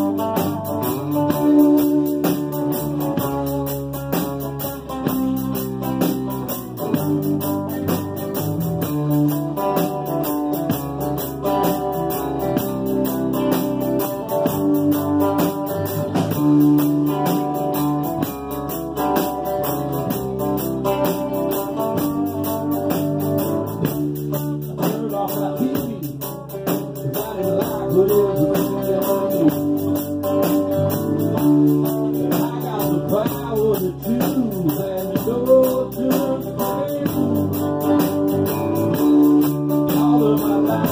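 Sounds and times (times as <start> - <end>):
acoustic guitars strumming: 0.0 - 40.9
bass guitar: 0.0 - 40.9.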